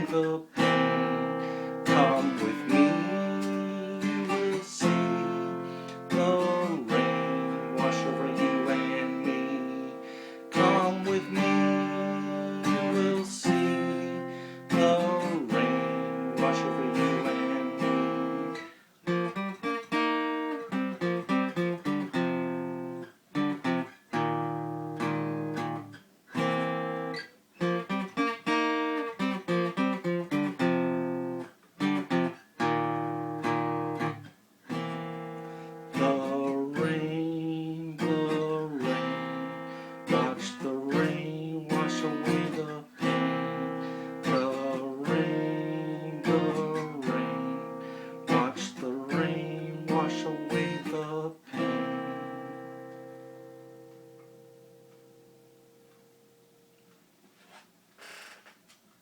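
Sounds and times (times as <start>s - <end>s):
acoustic guitar blues-rock playing: 0.0s - 56.7s.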